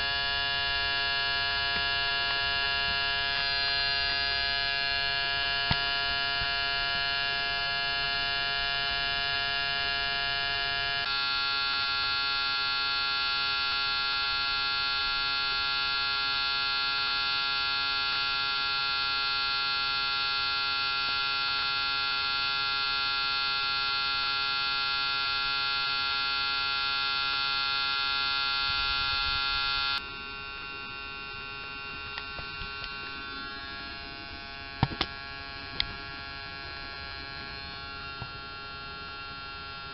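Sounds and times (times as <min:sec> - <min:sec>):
electric pump humming and whining: 0:00.0 - 0:39.9.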